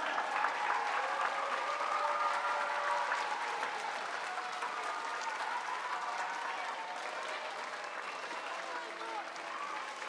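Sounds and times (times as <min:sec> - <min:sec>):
children applauding: 0:00.0 - 0:10.0.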